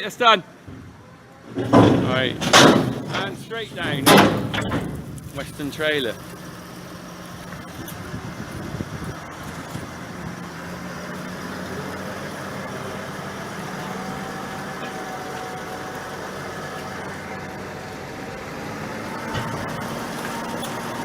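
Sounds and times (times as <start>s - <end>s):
tractor engine running: 1.5s - 21.0s.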